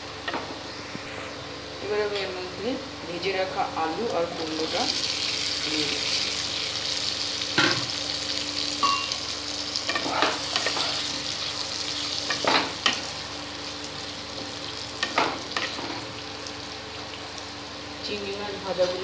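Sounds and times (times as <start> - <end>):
vegetables sizzling in oil: 1.7 - 19.0.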